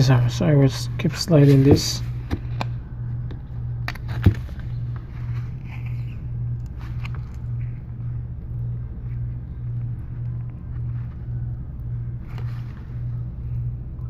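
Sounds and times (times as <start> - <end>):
steady low pulsing hum: 0.0 - 14.0.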